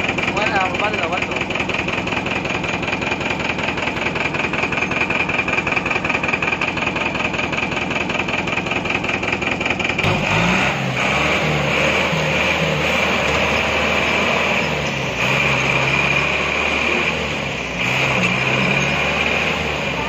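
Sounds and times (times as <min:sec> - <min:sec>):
truck engine running hard: 0:00.0 - 0:20.0.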